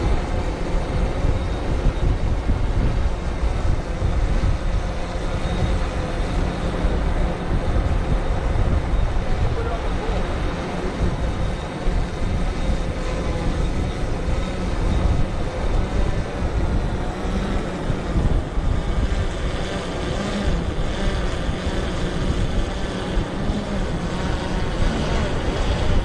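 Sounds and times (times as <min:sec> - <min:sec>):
drone propellers humming: 0:00.0 - 0:26.0
wind buffeting microphone: 0:00.0 - 0:26.0.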